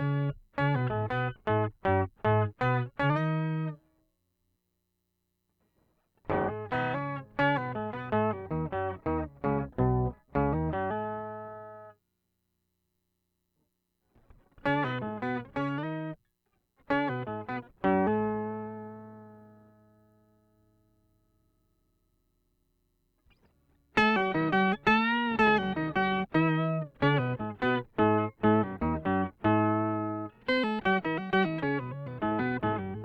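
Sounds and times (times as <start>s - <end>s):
electric guitar with octave effect: 0.0s - 4.1s, 6.2s - 12.0s, 14.1s - 16.2s, 16.8s - 21.9s, 23.2s - 33.0s.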